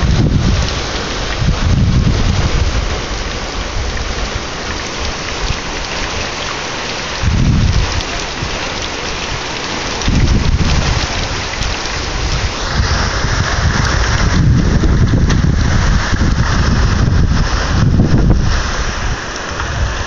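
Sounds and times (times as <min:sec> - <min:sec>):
low rumbles: 0:00.0 - 0:06.5, 0:07.2 - 0:20.0
heavy rain pouring: 0:00.0 - 0:20.0.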